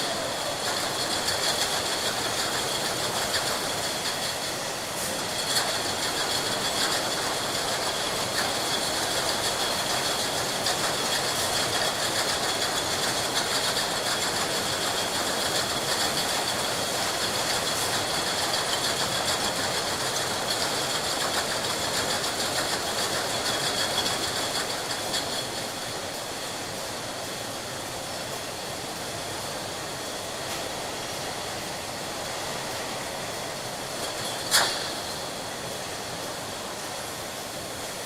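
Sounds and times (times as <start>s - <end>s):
factory machine noise: 0.0s - 38.0s.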